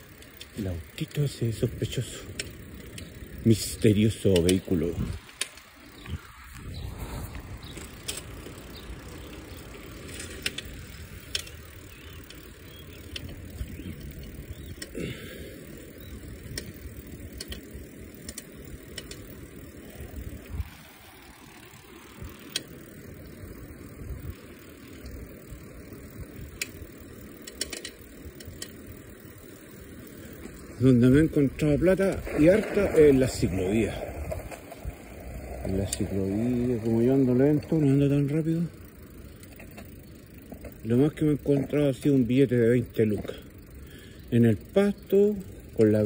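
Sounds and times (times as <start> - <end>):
bicycle clicks and rattles: 0.0 - 46.0
bicycle rolling rumble: 0.0 - 46.0.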